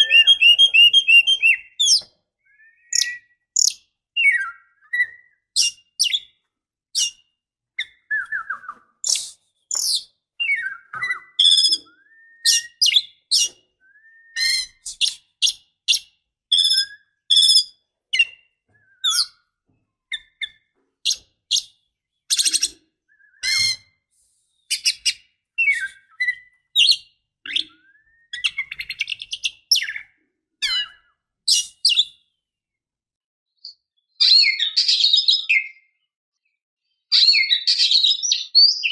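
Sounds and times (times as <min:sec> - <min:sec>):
bird chirps and whistles: 0:00.0 - 0:06.3, 0:07.0 - 0:19.5, 0:20.1 - 0:32.2, 0:33.6 - 0:36.0, 0:37.1 - 0:38.9.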